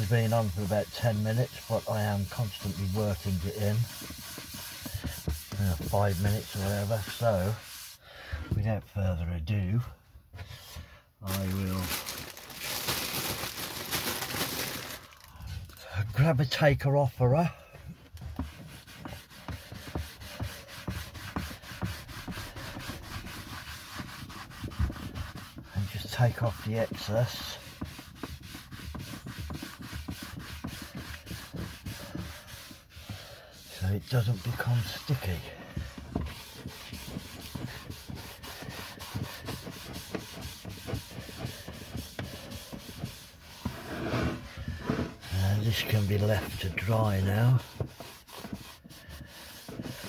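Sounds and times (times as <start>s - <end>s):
cloth rubbing on wood: 0.0s - 8.0s, 10.3s - 50.0s.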